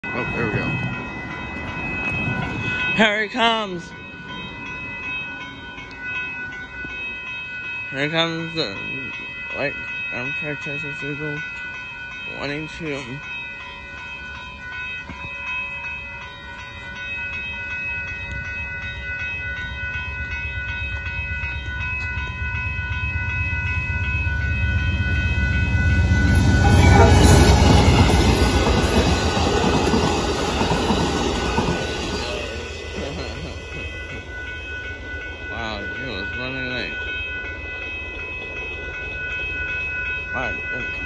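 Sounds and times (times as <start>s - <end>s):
crossing bell ringing: 0.0s - 41.0s
train rumbling over rails: 0.0s - 41.0s.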